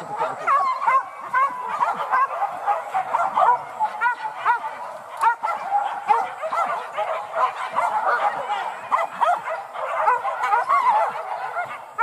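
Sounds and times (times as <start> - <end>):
dogs yelping and barking: 0.0 - 12.0.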